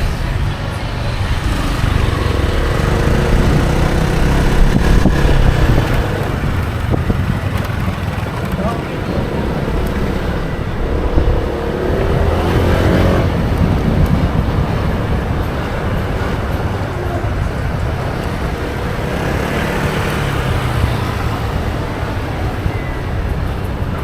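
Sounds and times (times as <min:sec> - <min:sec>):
motorbike engine: 0:00.0 - 0:24.0
road and wind noise: 0:00.0 - 0:24.0.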